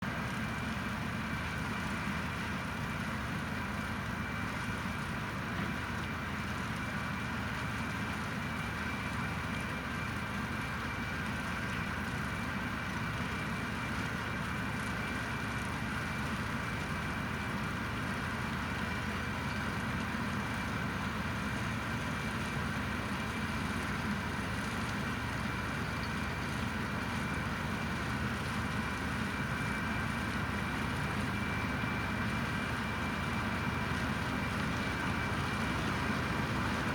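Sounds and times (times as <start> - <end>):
potato harvester whine: 0.0 - 36.9
tractor engine rumble: 0.0 - 36.9.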